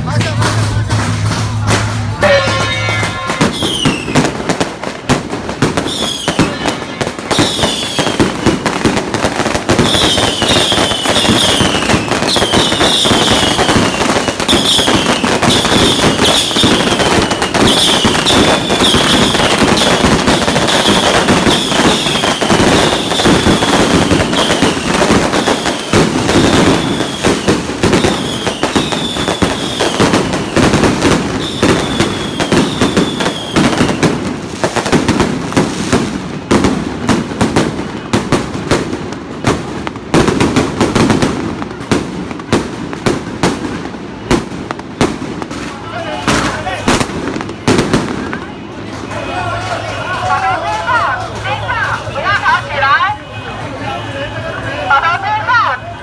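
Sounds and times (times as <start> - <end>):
firecrackers crackling: 0.0 - 56.0.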